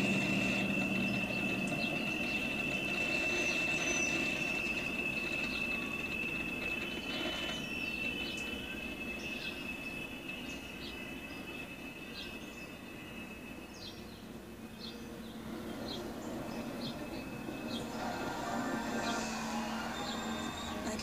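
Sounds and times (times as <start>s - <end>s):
high chirps: 0.0s - 14.1s, 15.8s - 21.0s
train wheel flange squeal: 0.0s - 21.0s.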